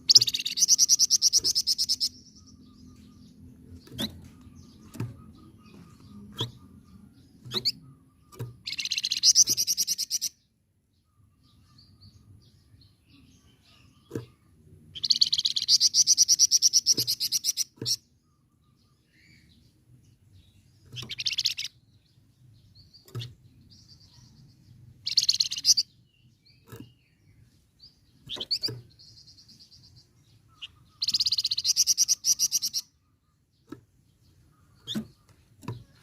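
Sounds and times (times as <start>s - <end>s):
bird chirps: 0.0s - 36.0s
bird singing rattling trill: 0.0s - 36.0s.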